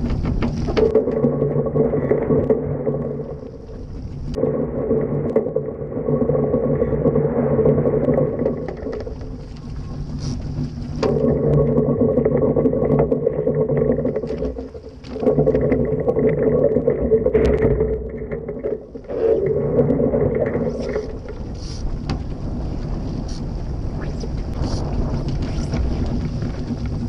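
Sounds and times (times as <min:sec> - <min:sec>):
hydrofoil hum: 0:00.0 - 0:27.0.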